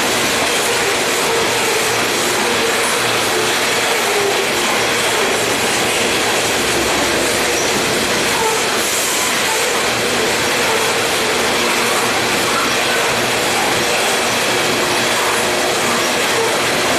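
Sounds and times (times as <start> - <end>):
freight train cars rolling: 0.0 - 16.9.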